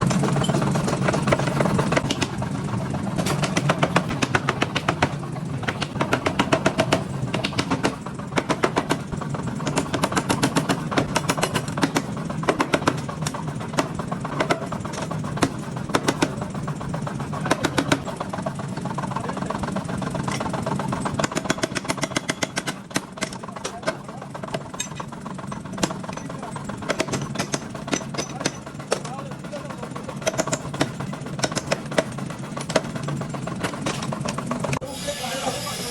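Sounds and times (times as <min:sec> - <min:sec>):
steady machine hum: 0:00.0 - 0:35.9.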